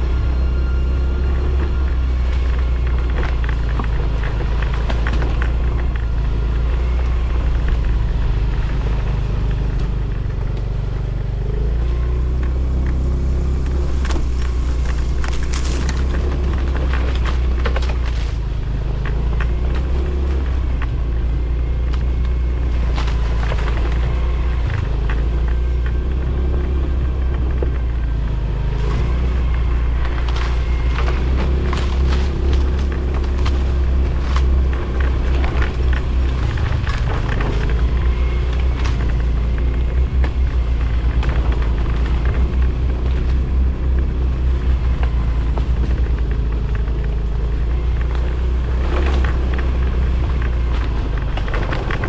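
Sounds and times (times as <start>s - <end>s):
motorcycle running: 0.0s - 52.0s
rattles and clicks: 0.0s - 52.0s
wind rumble on microphone: 0.0s - 52.0s.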